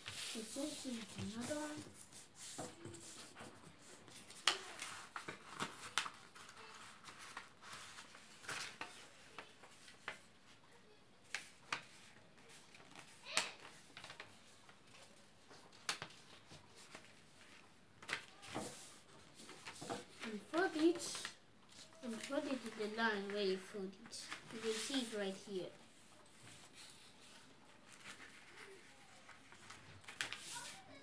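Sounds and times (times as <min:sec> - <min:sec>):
paper crackling and rustling: 0:00.0 - 0:10.3, 0:11.3 - 0:31.0.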